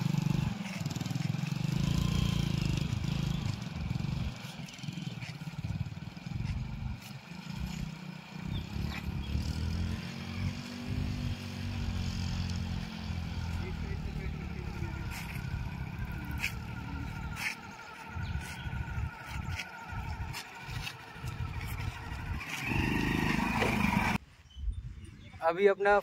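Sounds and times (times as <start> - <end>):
motorcycle engine at low revs: 0.0 - 24.2.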